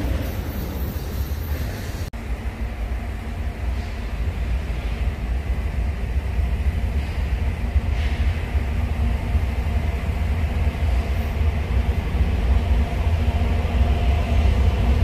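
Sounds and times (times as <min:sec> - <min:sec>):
diesel locomotive engines rumbling: 0:00.0 - 0:15.0.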